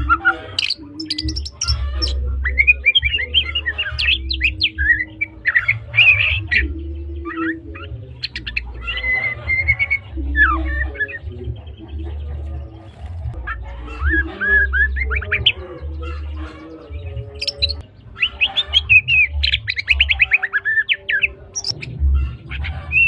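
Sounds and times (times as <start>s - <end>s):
bird singing whistles and trills: 0.0s - 23.0s.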